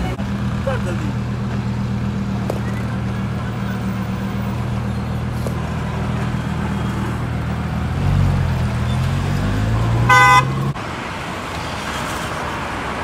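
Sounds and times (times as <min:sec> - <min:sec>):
car engines droning: 0:00.0 - 0:13.0.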